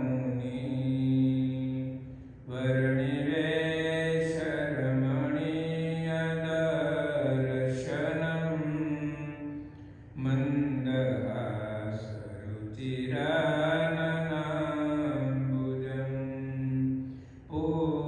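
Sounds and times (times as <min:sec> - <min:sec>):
person chanting devotional verse: 0:00.0 - 0:18.0.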